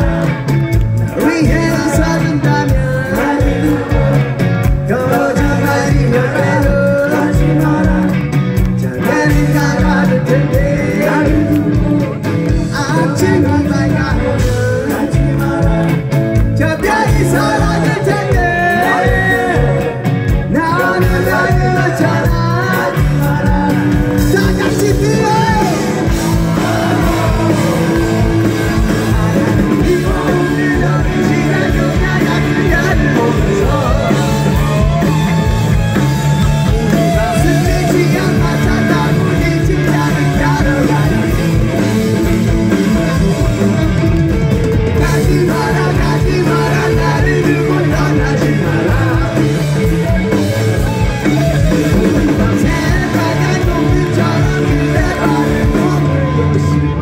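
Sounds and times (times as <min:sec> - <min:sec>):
person singing: 0:00.0 - 0:44.1, 0:45.0 - 0:57.0
drums: 0:00.0 - 0:57.0
electric guitars: 0:00.0 - 0:57.0.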